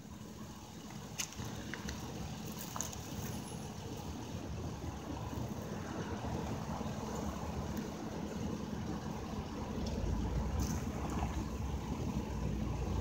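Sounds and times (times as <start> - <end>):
distant diesel locomotive rumble: 0.0 - 13.0.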